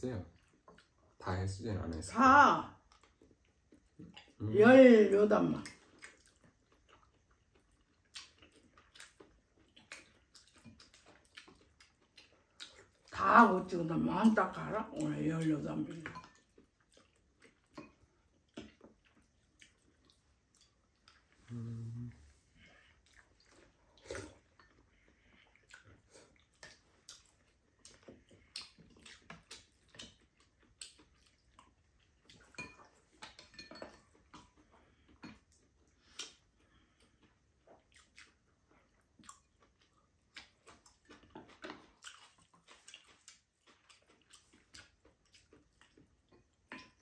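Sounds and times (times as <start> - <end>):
person chewing food: 0.3 - 1.2, 2.8 - 4.4, 5.6 - 13.2, 14.1 - 47.0.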